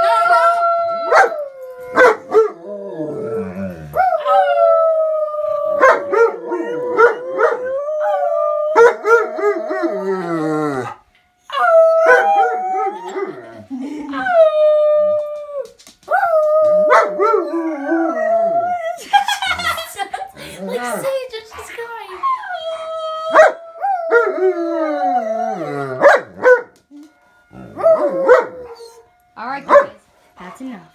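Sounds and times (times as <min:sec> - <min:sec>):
dogs howling: 0:00.0 - 0:19.9, 0:22.0 - 0:26.8, 0:27.6 - 0:29.1.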